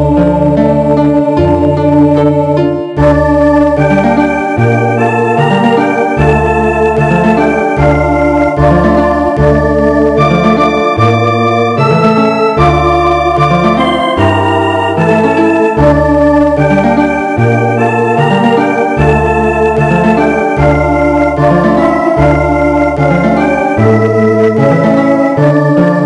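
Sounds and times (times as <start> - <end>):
organ keyboard folk melody: 0.0 - 26.0.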